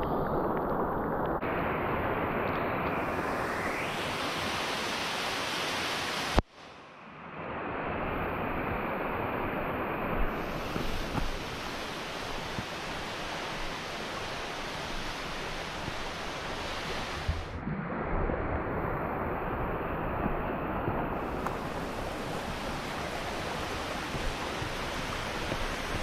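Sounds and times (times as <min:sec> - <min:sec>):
waterfall and stream rushing: 0:00.0 - 0:26.0.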